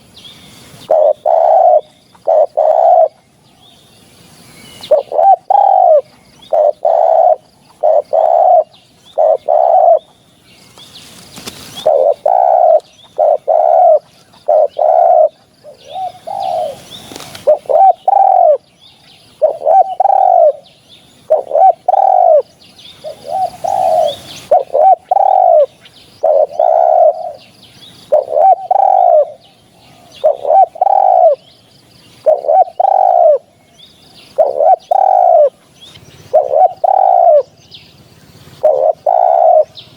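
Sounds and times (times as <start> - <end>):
dove cooing: 0.0 - 3.3, 4.8 - 10.2, 11.6 - 18.6, 19.3 - 31.5, 32.2 - 33.6, 34.3 - 35.6, 36.3 - 39.9
faint bird chirps: 0.0 - 39.9.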